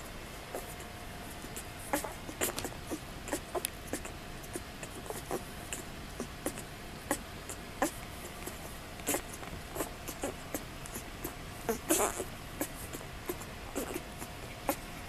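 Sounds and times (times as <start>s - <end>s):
puppies suckling: 0.0s - 14.9s.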